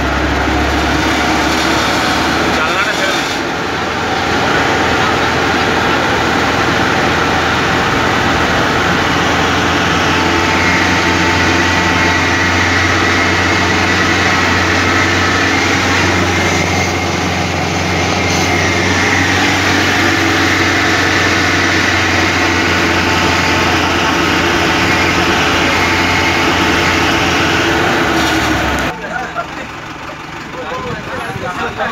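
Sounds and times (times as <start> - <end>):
road noise: 0.0 - 31.9
vehicle engine running: 0.0 - 31.9.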